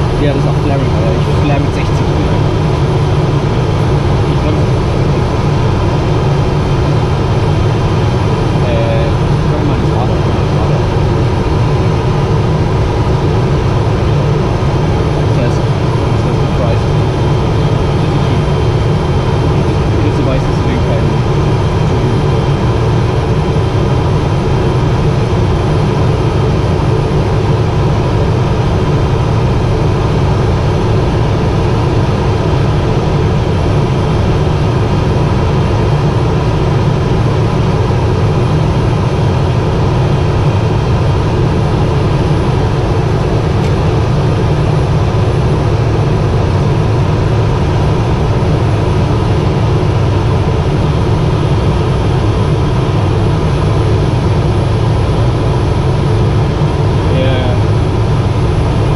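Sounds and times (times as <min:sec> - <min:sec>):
turboprop engine cabin drone: 0:00.0 - 0:58.9.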